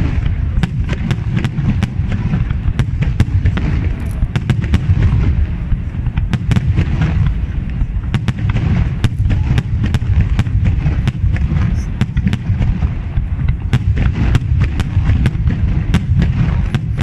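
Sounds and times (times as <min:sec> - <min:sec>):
deep booming of firework shells: 0:00.0 - 0:17.0.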